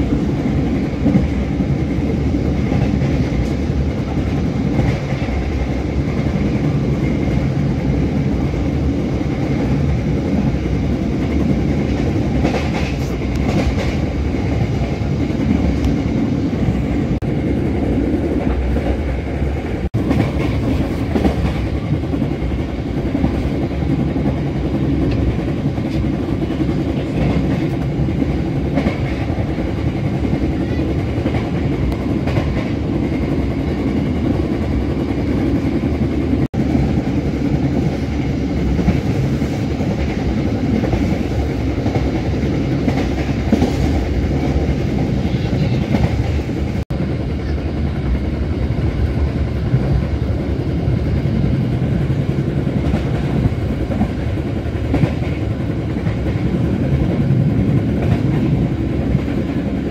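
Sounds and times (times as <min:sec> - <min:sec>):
train rumbling along rails: 0:00.0 - 0:59.9.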